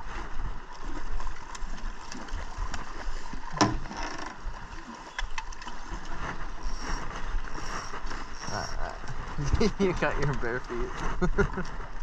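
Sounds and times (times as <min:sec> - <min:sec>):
water sloshing against boat: 0:00.0 - 0:12.0.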